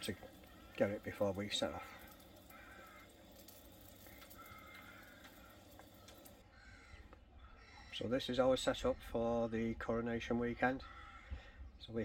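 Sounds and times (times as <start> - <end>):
faint distant bird calls: 0.0 - 12.0.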